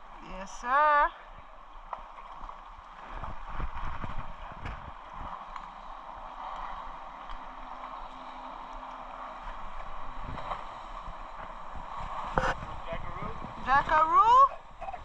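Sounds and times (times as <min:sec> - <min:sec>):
moving water: 0:00.0 - 0:15.0.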